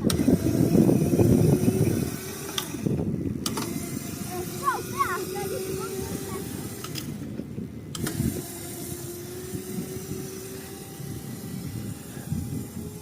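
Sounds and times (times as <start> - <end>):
dirt bike engine running: 0.0 - 13.0
wind rumble on microphone: 0.0 - 13.0.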